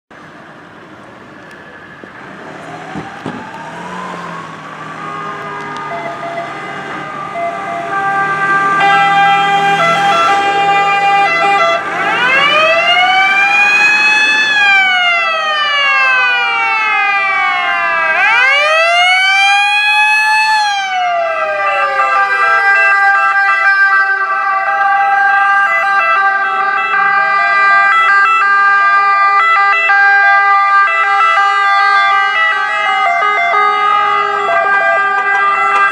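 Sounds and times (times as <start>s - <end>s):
wailing sirens: 1.4s - 35.9s
steady held siren tones: 2.4s - 35.9s.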